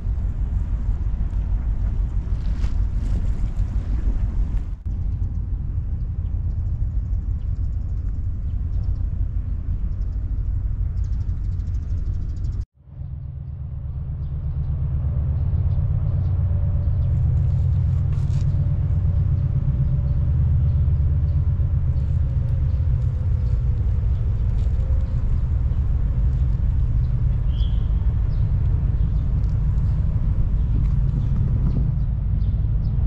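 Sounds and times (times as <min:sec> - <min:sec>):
faint hum: 0:00.0 - 0:33.0
low outdoor rumble: 0:00.0 - 0:33.0.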